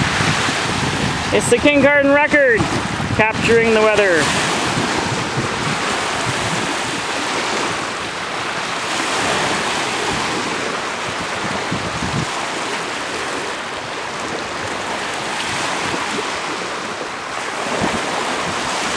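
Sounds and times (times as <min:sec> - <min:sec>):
waves washing onto beach: 0:00.0 - 0:18.9
wind gusting on microphone: 0:00.0 - 0:18.9.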